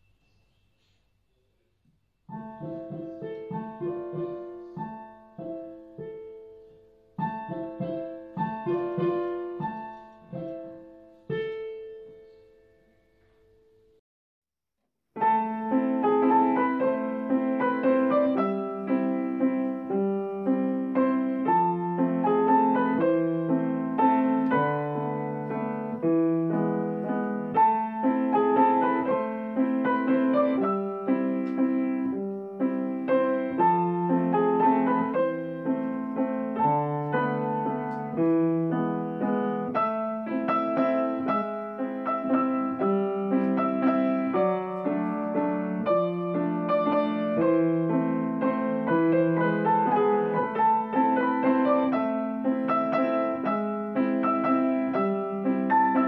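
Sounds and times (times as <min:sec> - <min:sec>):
piano waltz: 0:02.2 - 0:14.0, 0:15.2 - 0:56.0.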